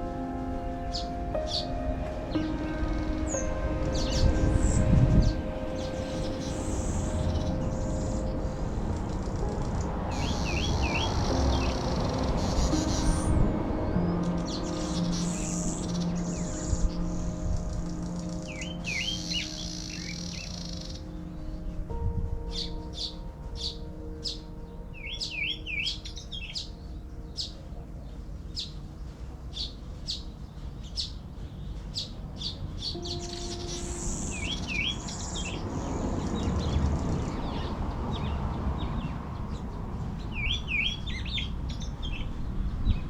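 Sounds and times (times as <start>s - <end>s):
low rumbling noise: 0.0s - 43.0s
songbirds chirping: 0.0s - 43.0s.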